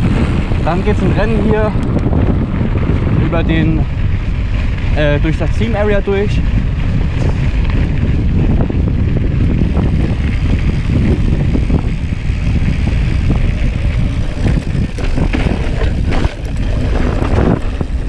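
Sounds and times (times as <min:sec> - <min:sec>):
bike rattling: 0:00.0 - 0:18.0
bike tyres rumbling over dirt: 0:00.0 - 0:18.0
wind noise on microphone: 0:00.0 - 0:18.0.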